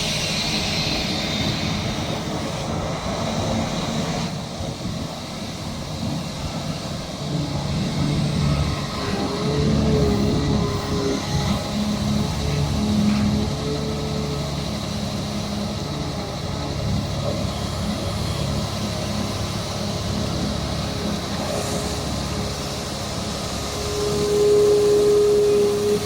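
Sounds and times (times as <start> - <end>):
engine whine: 0.0 - 26.0
excavator diesel engine running: 0.0 - 26.0.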